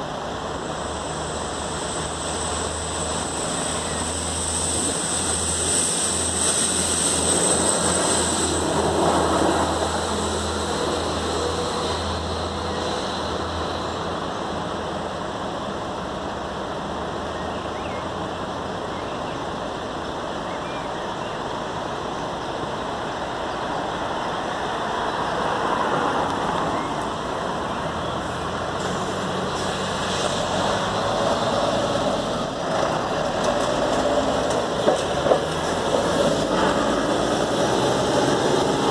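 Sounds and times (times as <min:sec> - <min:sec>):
cars passing: 0:00.0 - 0:20.3, 0:21.5 - 0:38.9.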